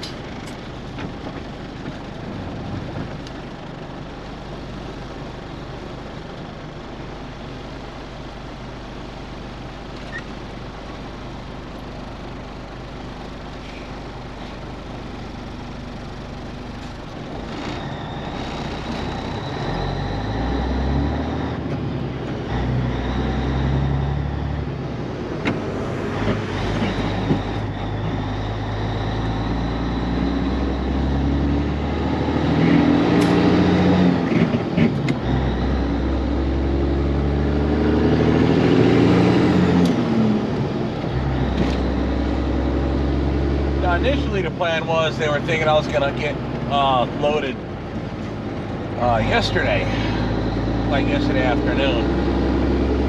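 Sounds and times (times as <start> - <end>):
diesel truck engine shifting gears: 0.0 - 53.0.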